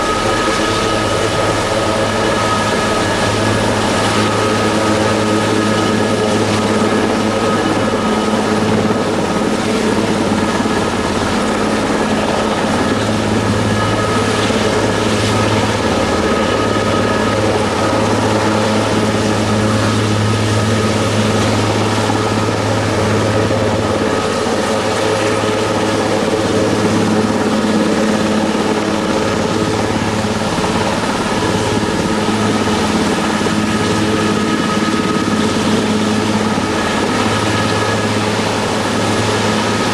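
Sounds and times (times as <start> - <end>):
helicopter rotor thrum: 0.0 - 39.9
turbine whine: 0.0 - 39.9.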